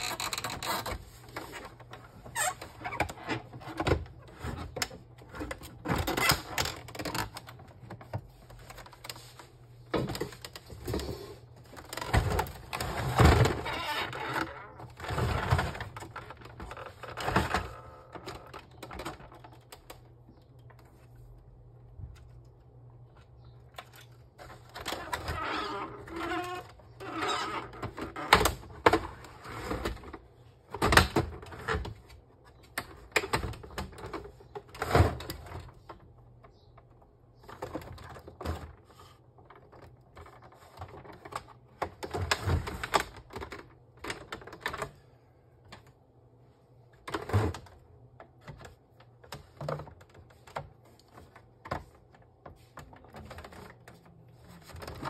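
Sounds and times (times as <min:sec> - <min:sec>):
plastic printer parts clicking and knocking: 0:00.0 - 0:21.0, 0:26.0 - 0:46.3, 0:46.9 - 0:55.0.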